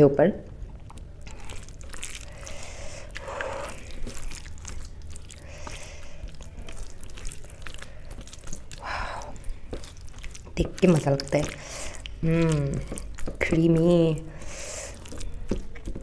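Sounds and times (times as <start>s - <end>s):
chewing: 0.7s - 16.0s
hand squishing wet rice: 0.8s - 16.0s.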